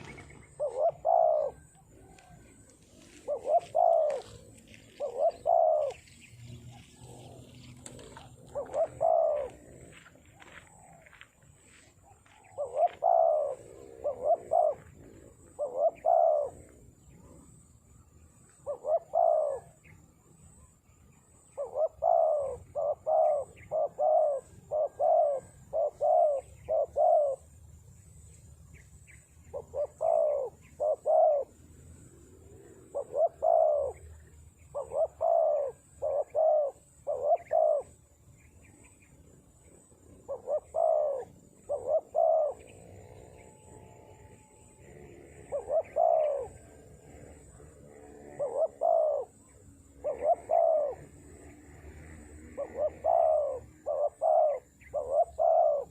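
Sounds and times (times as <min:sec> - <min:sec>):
dove cooing: 0:00.0 - 0:27.7, 0:29.2 - 0:55.9.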